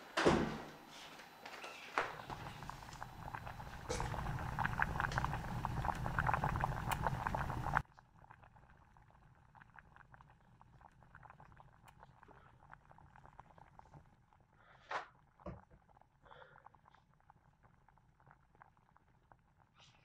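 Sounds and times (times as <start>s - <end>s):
water boiling in saucepan: 2.2s - 20.0s.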